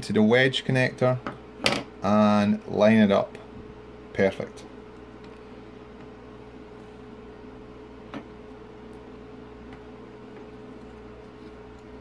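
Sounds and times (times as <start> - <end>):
steady hum with hiss: 0.0 - 12.0.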